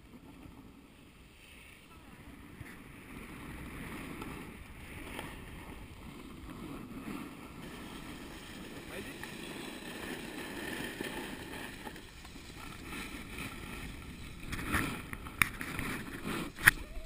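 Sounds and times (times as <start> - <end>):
hiss of riding over snow: 0.0 - 17.0
wind rushing over microphone: 2.0 - 17.0.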